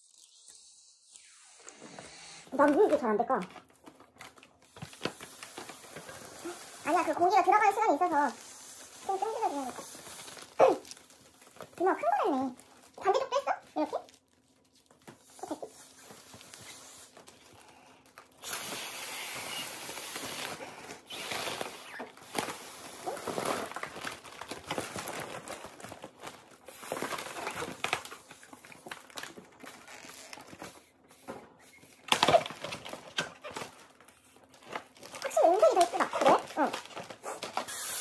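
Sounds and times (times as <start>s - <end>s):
foil balloons crinkling: 0.0s - 38.0s.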